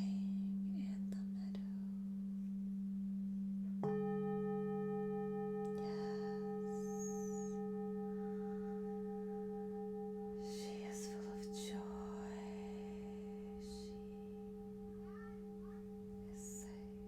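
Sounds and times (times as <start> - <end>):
low singing bowl humming: 0.0 - 17.0
higher singing bowl struck: 2.8 - 17.0.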